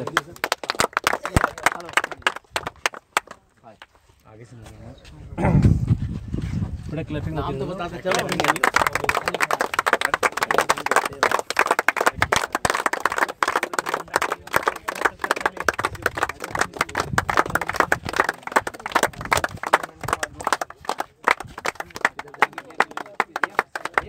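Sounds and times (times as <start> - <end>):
small crowd clapping: 0.0 - 3.9, 7.8 - 24.0.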